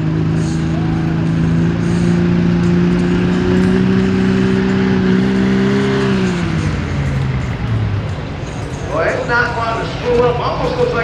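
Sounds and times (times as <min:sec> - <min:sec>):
diesel engine at high revs: 0:00.0 - 0:11.0.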